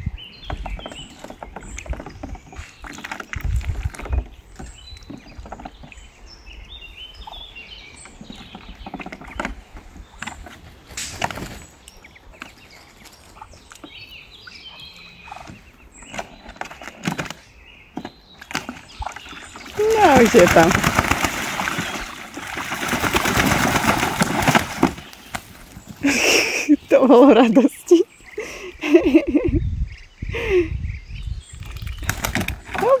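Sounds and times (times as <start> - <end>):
ducklings peeping: 0.0 - 33.0.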